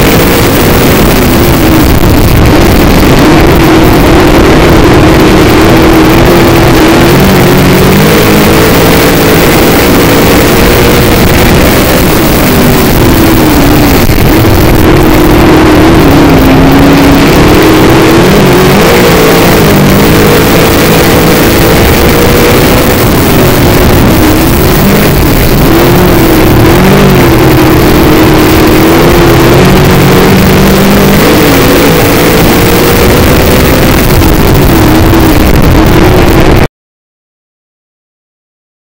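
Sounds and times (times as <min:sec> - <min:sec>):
race car engine revving: 0:00.0 - 0:36.7
wind and chassis noise: 0:00.0 - 0:36.7.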